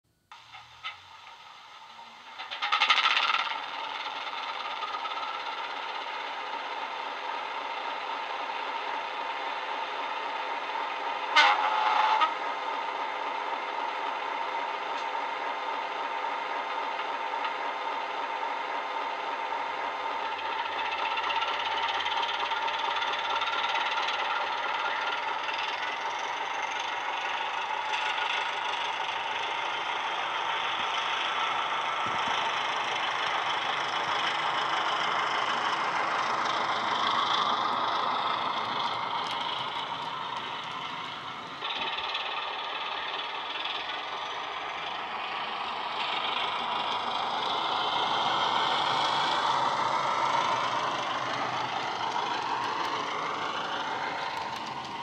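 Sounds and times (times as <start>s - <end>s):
model locomotive running sound: 0.3s - 55.0s.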